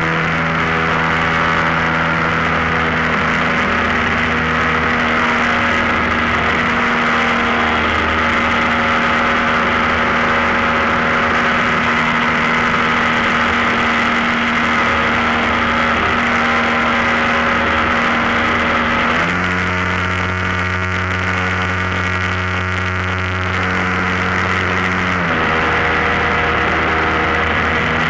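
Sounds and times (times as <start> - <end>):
model plane motor and propeller: 0.0 - 28.0.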